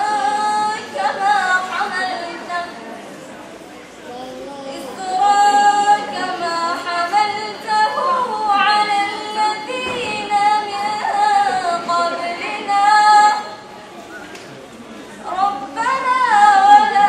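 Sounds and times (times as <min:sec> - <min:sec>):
woman chanting melodically: 0:00.0 - 0:03.0, 0:04.6 - 0:13.7, 0:15.2 - 0:17.0.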